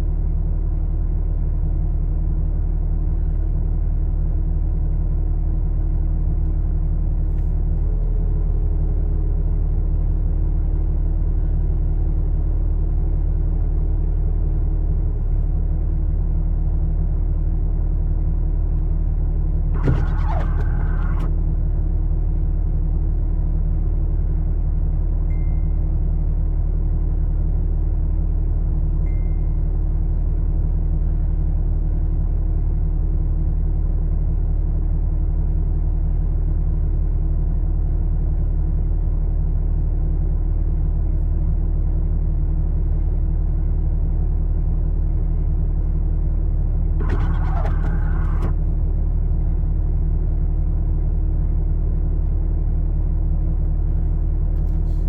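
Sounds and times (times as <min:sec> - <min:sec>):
vehicle engine idling: 0:00.1 - 0:32.7, 0:38.3 - 0:55.0.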